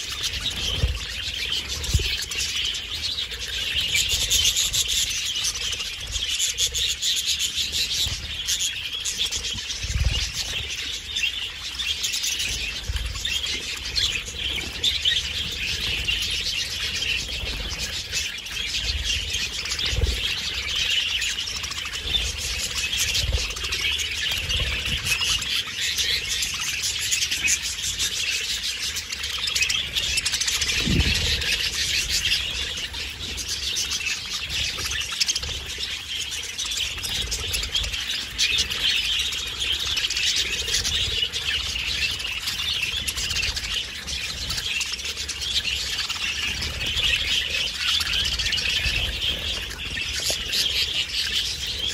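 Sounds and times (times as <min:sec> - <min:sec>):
budgerigars chattering and warbling: 0:00.0 - 0:51.9.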